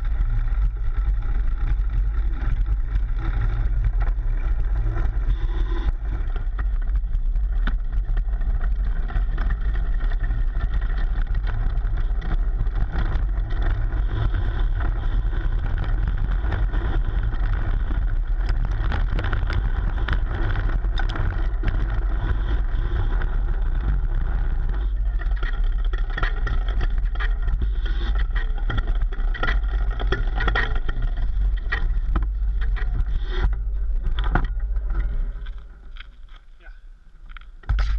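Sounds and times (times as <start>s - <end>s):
bike chain and frame rattling: 0.0s - 36.6s
bike tyres rumbling on dirt: 0.0s - 37.9s.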